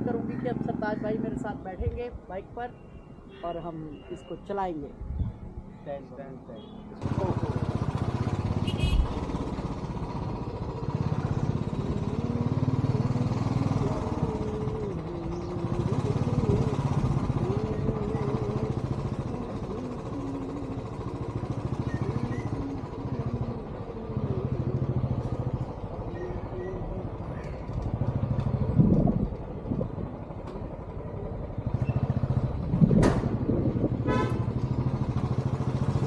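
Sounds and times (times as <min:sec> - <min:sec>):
motorcycle engine revving: 0:07.0 - 0:36.0.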